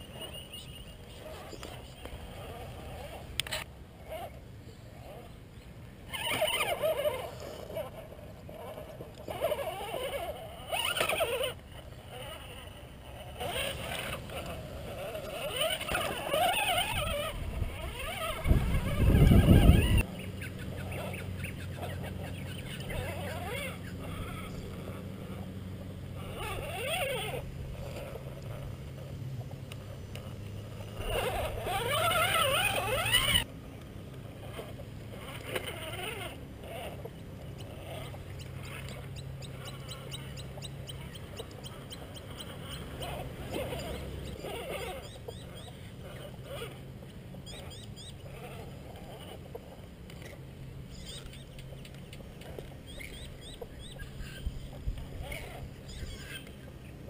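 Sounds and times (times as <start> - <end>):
electric motor whining: 6.0 - 33.5, 34.2 - 56.7.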